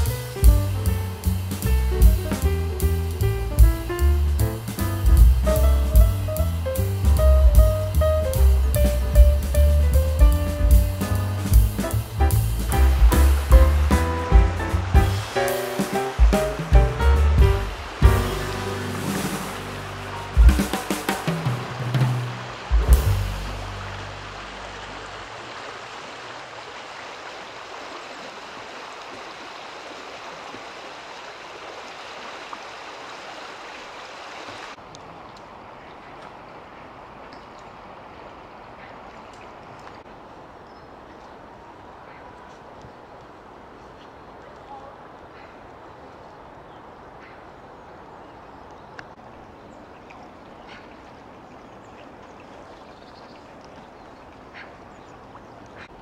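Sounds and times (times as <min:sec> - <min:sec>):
fast-flowing stream: 0:10.4 - 0:56.0.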